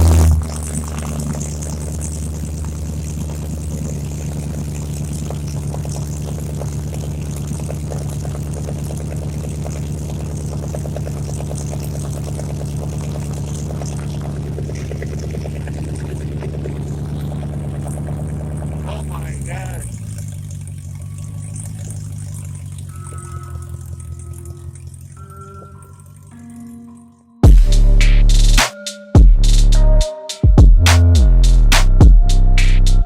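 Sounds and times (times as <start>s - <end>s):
car engine idling: 0.0s - 26.6s.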